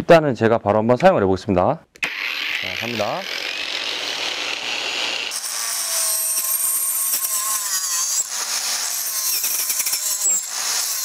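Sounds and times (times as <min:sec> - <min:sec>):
angle grinder cutting plastic pipe: 0:02.0 - 0:11.0.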